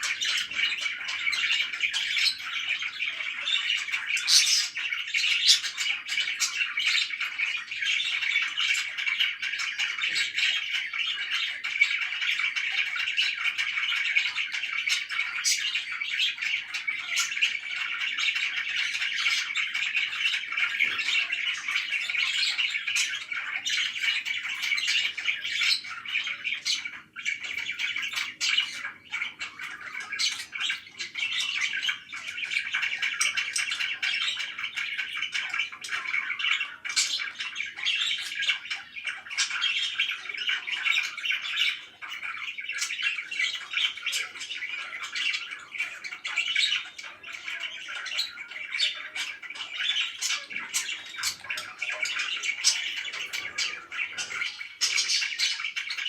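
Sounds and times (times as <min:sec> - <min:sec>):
parakeet squawk: 0:00.0 - 0:56.0
parakeets chirping and chattering: 0:00.0 - 0:56.0.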